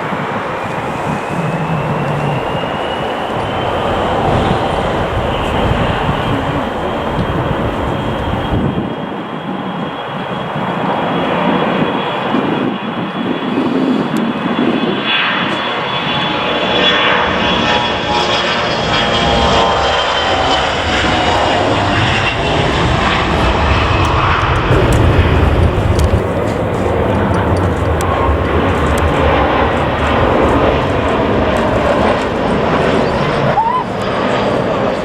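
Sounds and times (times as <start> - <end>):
jet engines with high whine: 0.0 - 35.0.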